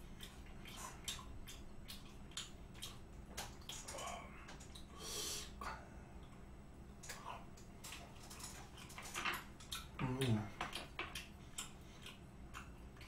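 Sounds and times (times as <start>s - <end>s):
person chewing: 0.0s - 6.4s, 7.0s - 13.0s.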